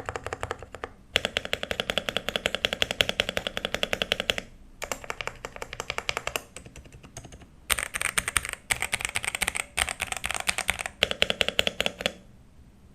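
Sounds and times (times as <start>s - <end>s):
mechanical keyboard typing: 0.0s - 12.2s.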